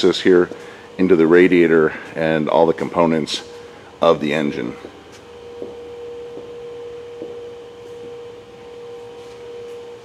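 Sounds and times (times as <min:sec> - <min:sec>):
steady mid-range hum: 0:00.0 - 0:10.0.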